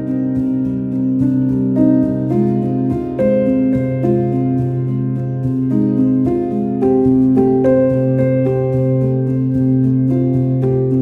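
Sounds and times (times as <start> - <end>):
slow gentle instrumental music: 0.0 - 11.0.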